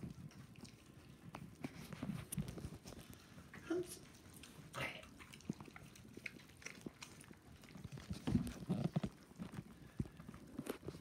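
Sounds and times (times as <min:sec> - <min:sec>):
dog eating from a bowl: 0:00.0 - 0:11.0.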